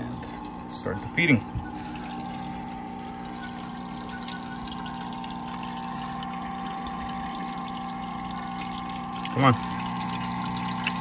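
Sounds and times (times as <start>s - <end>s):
filter motor hum: 0.0s - 11.0s
water trickling: 0.0s - 11.0s.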